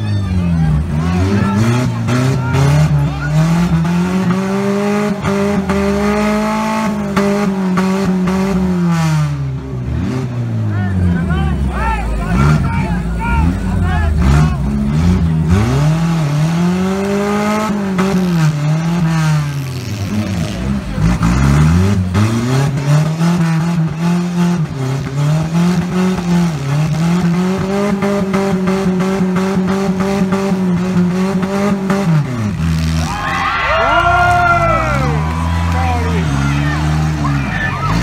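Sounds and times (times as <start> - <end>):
car engine revving hard: 0.4 - 38.0.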